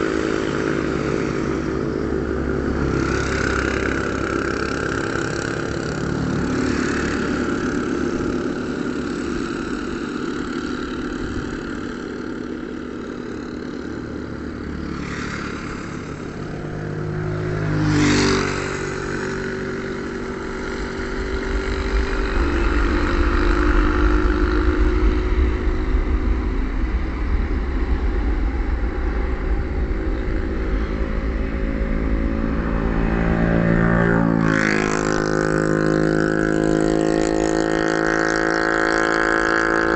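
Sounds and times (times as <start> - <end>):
jet engines at takeoff: 0.0 - 35.4, 36.2 - 39.9.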